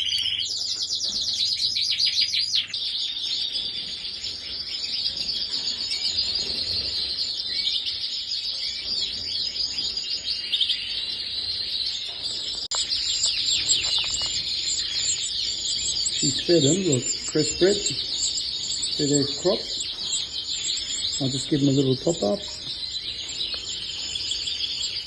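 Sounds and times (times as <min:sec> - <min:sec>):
canaries chirping and trilling: 0:00.0 - 0:25.0.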